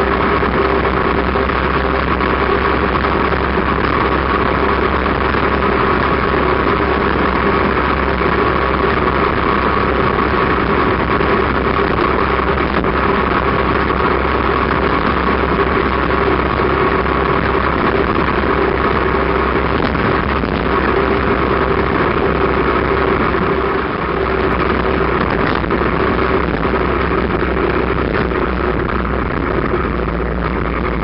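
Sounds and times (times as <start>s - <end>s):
motorcycle engine humming: 0.0s - 31.0s
wind rush on microphone: 0.0s - 31.0s.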